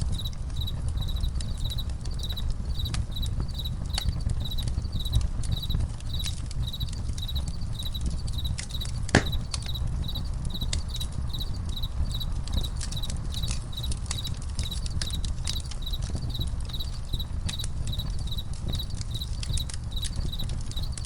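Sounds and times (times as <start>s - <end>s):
campfire crackling and popping: 0.0s - 21.0s
crickets chirping: 0.0s - 21.0s.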